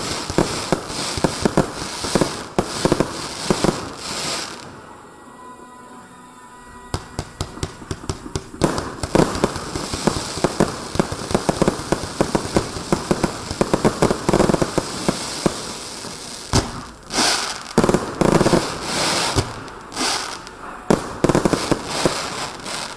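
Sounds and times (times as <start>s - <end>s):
firework tube launches: 0.0s - 4.7s, 6.9s - 22.9s
firework aerial bursts: 0.0s - 4.9s, 6.9s - 22.9s
firework crackling: 0.0s - 5.0s, 6.7s - 22.9s.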